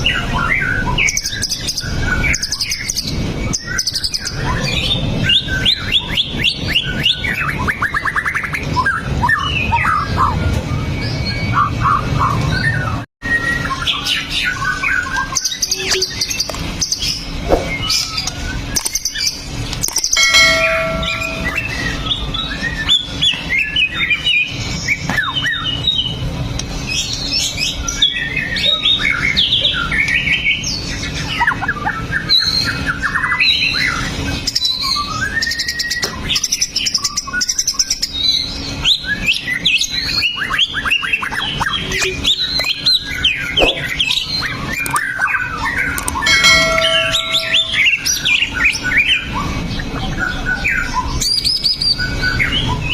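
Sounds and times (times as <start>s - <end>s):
bird singing varied song: 0.0s - 52.9s.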